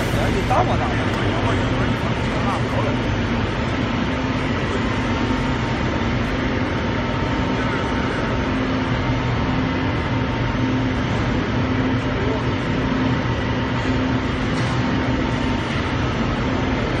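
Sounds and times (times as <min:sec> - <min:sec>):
furnace and blower fan drone: 0:00.0 - 0:17.0.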